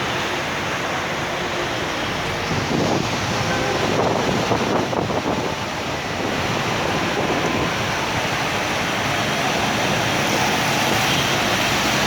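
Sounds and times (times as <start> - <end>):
water rushing on flooded street: 0.0 - 12.0.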